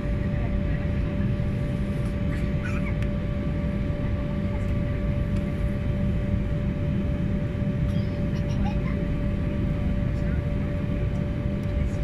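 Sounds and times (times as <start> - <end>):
jet airliner cabin drone: 0.0 - 12.0.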